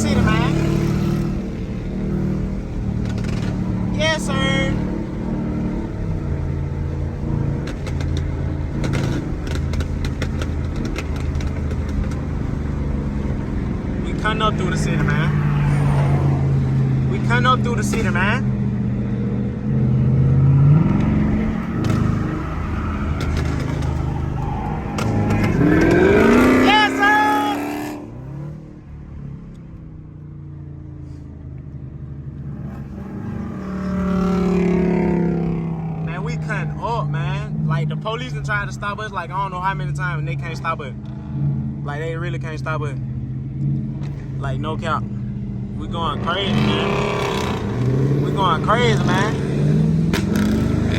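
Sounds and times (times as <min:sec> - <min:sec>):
car engine droning: 0:00.0 - 0:50.9.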